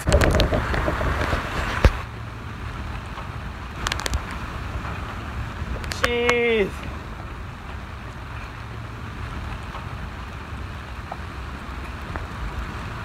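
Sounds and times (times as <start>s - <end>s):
choppy water washing: 0.0s - 13.0s
wind buffeting microphone: 0.0s - 13.0s.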